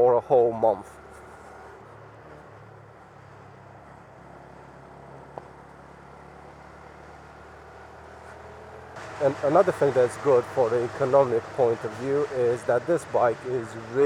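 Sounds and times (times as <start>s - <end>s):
motorcycle engine cruising: 0.7s - 14.0s.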